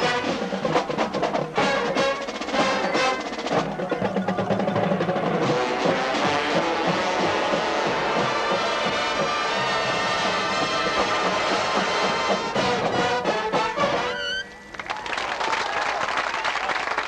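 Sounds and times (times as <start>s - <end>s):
bugle chords: 0.0s - 0.9s, 1.5s - 14.8s
drum line hits: 0.0s - 14.1s.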